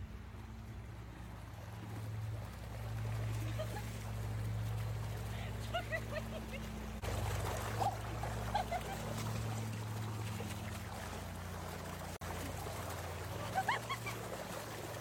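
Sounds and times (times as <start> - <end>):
pool jet splashing: 0.0 - 15.0.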